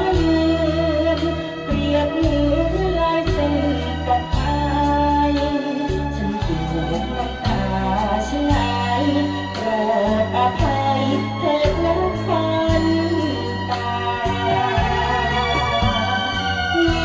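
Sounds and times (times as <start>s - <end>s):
backing track with bass: 0.0s - 17.0s.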